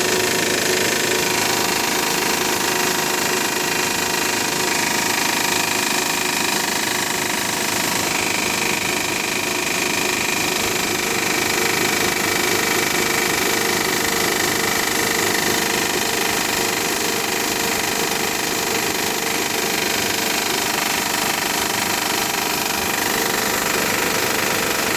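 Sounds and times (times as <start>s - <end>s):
car engine running: 0.0s - 24.9s
engine rattle: 0.0s - 24.9s.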